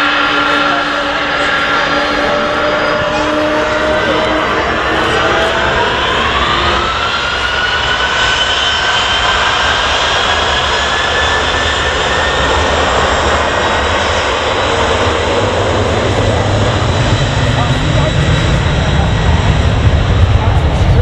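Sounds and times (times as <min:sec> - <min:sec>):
jet engines spooling up: 0:00.0 - 0:21.0.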